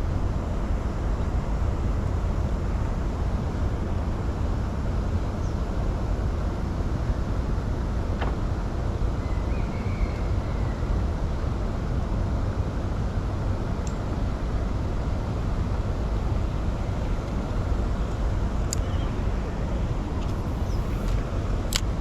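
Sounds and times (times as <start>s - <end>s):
low rumbling outdoor noise: 0.0s - 22.0s.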